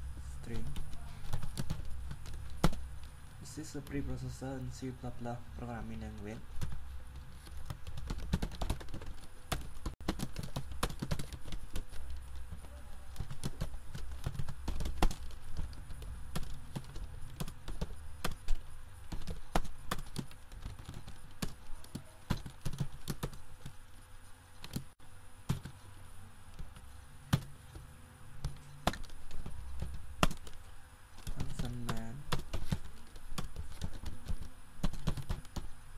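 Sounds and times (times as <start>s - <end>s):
low steady hum: 0.0s - 35.9s
keyboard typing: 0.1s - 25.9s, 26.5s - 35.9s.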